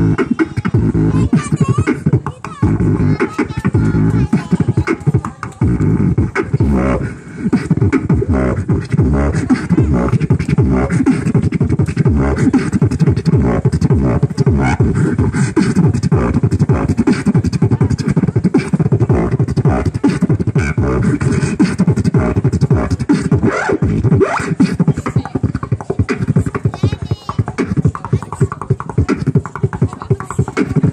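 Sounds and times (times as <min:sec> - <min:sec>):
beatboxing through a speaker: 0:00.0 - 0:30.9.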